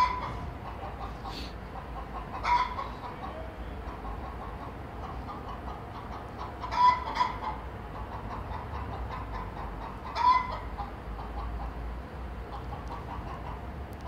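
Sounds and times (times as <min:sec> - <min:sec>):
rooster clucking: 0:00.0 - 0:13.8.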